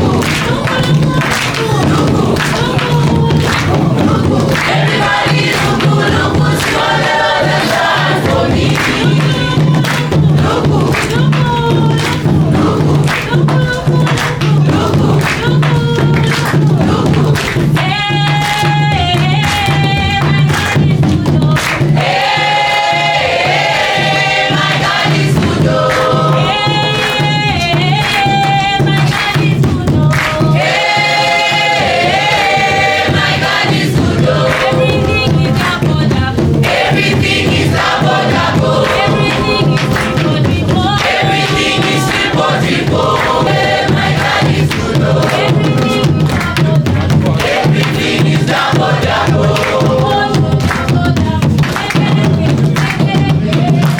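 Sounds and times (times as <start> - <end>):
group singing worship song: 0.0 - 53.9
music with steady beat: 0.0 - 53.9.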